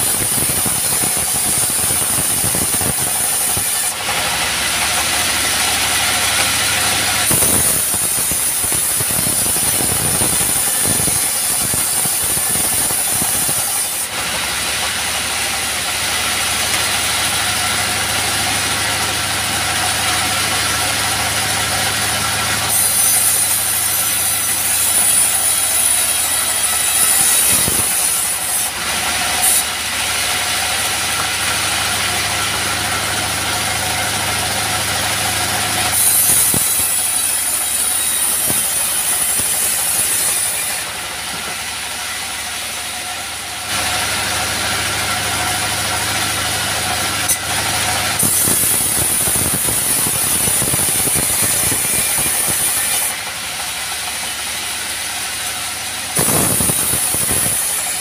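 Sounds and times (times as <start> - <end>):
saw blade hissing through wood: 0.0 - 19.0, 19.6 - 33.0, 35.6 - 43.0, 48.1 - 53.4, 56.1 - 58.0
sawmill engine running: 0.0 - 58.0.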